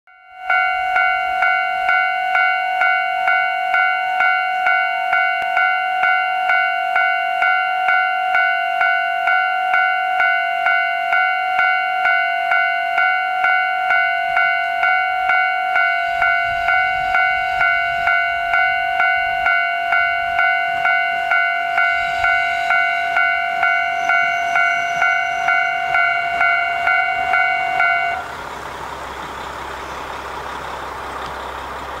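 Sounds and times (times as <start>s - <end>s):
level crossing warning bell: 0.1s - 31.0s
diesel railcar rumbling: 0.2s - 32.0s.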